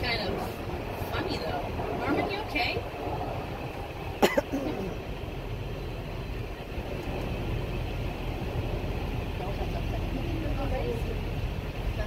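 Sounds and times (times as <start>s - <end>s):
tram idling: 0.0s - 12.0s.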